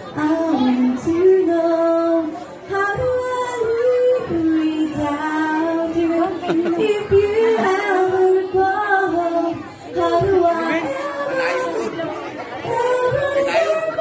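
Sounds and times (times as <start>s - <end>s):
woman singing ballad over loudspeaker: 0.0s - 14.0s.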